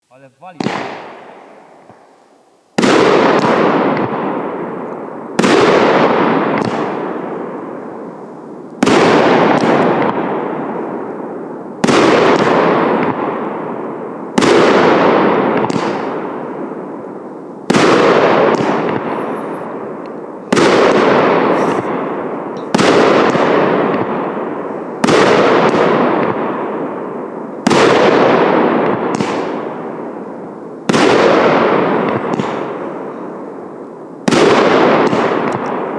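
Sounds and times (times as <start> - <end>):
fireworks shots bursting: 0.1 - 35.9.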